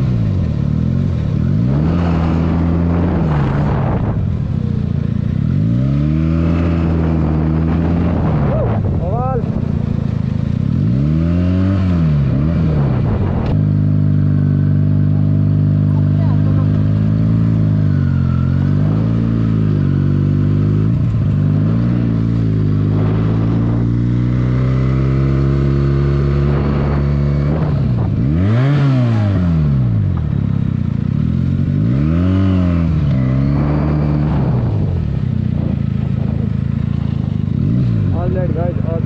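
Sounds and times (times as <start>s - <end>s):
motorcycle engine running and revving: 0.0s - 39.0s.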